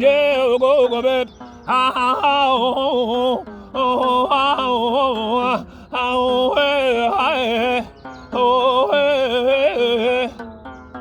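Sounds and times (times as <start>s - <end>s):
person singing yodel-like phrases: 0.0s - 10.4s.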